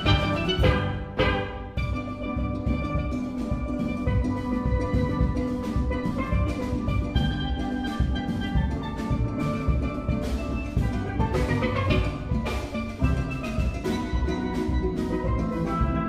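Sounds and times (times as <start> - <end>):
drums keeping steady pulse: 0.0 - 16.0
steelpans playing melody and chords: 0.0 - 16.0.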